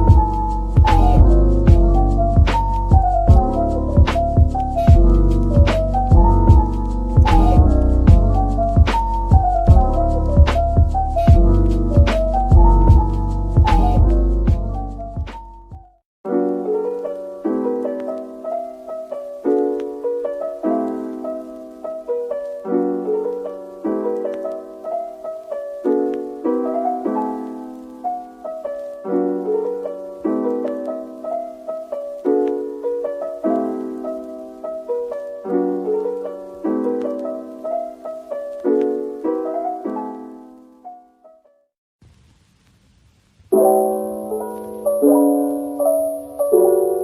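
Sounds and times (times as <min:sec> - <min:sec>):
gentle piano piece: 0:00.0 - 0:41.7, 0:43.5 - 0:47.0.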